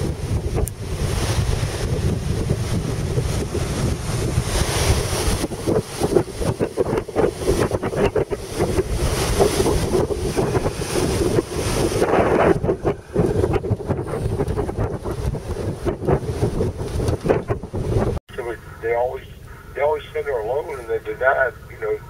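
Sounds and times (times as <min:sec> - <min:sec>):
surf breaking on beach: 0:00.0 - 0:19.2
wind buffeting microphone: 0:00.0 - 0:22.0.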